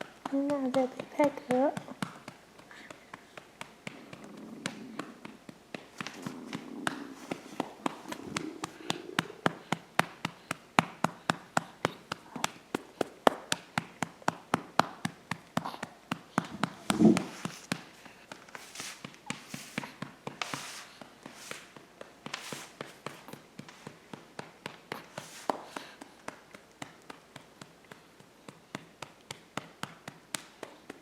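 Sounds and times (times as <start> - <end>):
hand patting baby's back: 0.0 - 30.8
soft brushing strokes: 0.0 - 31.0.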